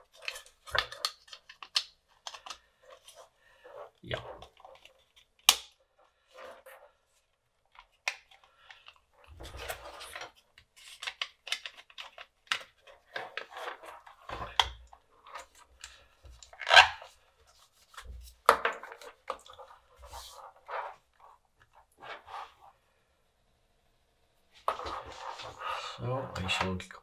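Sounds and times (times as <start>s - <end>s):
plastic parts clicking and scraping: 0.0s - 22.6s.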